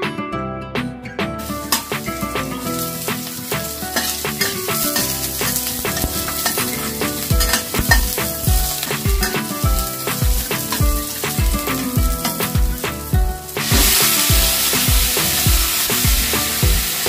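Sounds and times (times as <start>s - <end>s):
background music with low beat: 0.8s - 17.0s
spatula scraping a wok: 1.4s - 16.0s
garlic and onions sizzling in oil: 1.4s - 17.0s.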